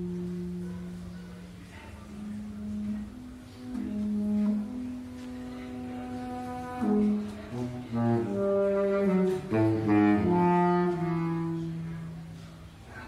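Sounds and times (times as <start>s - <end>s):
saxophones with tango ensemble: 0.0s - 12.8s.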